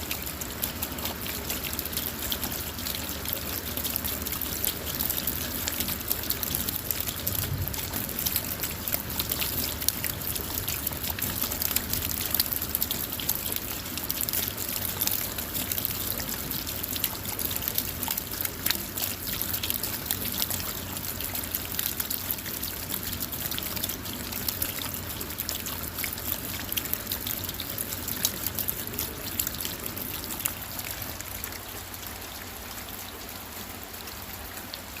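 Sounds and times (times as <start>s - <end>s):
rain on a car roof: 0.0s - 35.0s.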